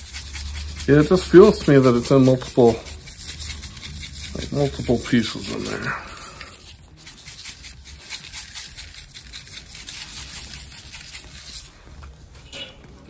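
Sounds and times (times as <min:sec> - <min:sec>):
shaker bottle rattling: 0:00.0 - 0:12.2.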